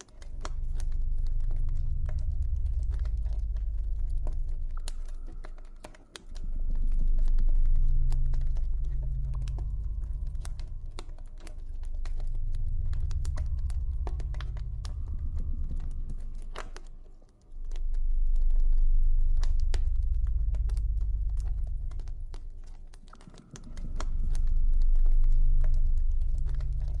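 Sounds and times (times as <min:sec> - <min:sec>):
deep low drone: 0:00.0 - 0:27.0.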